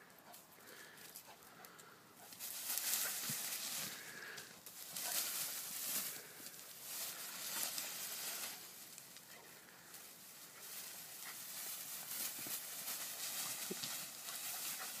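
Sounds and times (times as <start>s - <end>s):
leaves and twigs rustling: 0.0s - 15.0s.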